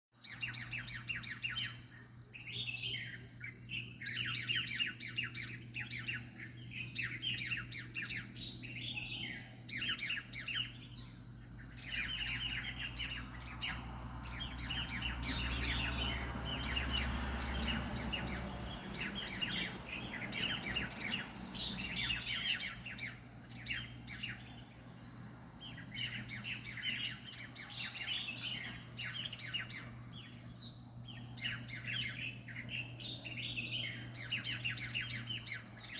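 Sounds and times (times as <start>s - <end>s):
flock of birds chirping: 0.2s - 35.9s
steady low hum: 0.3s - 35.9s.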